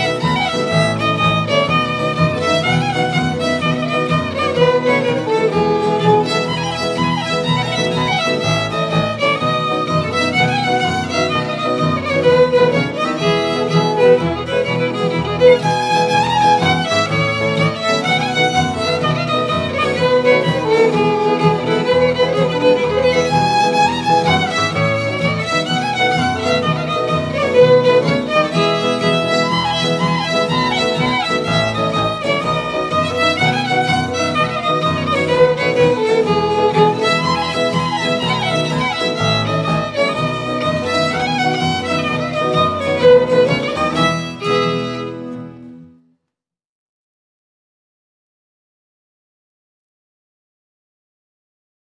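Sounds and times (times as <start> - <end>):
low accompaniment: 0.0 - 45.2
fiddle tune: 0.0 - 46.0.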